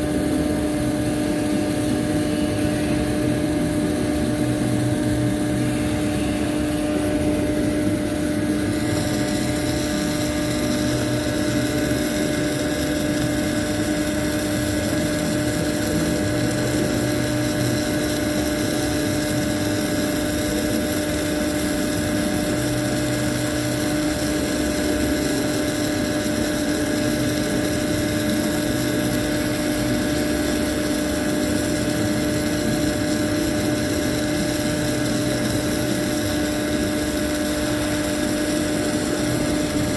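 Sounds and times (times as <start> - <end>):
mechanical drone with hum: 0.0 - 39.9.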